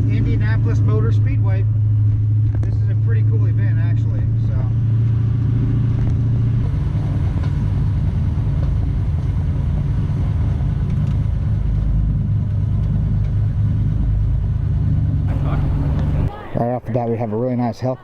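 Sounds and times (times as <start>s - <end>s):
car engine running at low speed: 0.0s - 17.4s.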